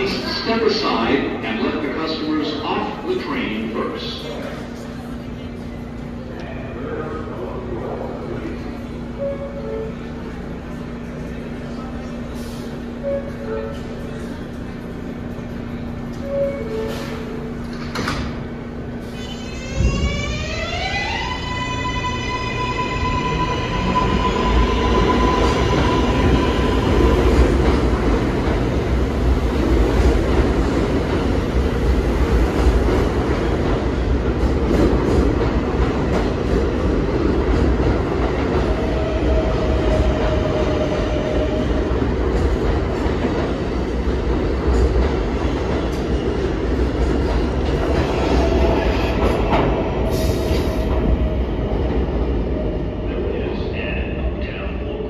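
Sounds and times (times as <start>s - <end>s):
wheel and rail rumble: 1.3s - 55.0s.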